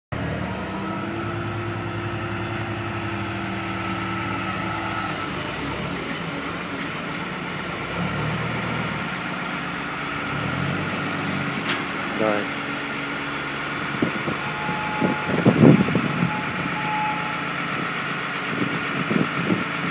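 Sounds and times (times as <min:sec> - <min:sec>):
diesel engine running: 0:00.1 - 0:19.9.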